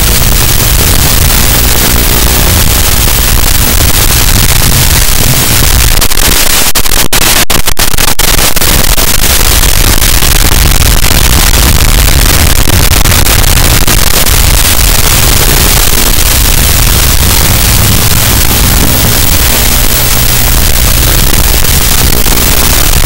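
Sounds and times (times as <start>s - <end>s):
static hiss: 0.0s - 23.0s.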